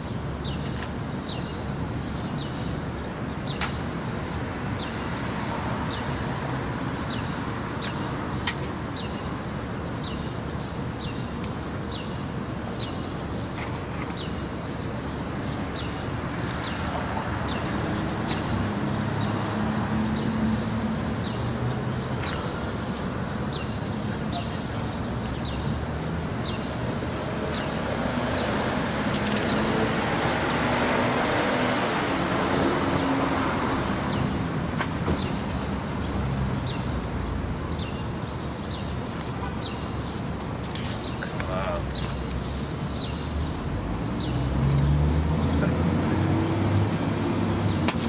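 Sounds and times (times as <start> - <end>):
traffic rumble: 0.0 - 48.0.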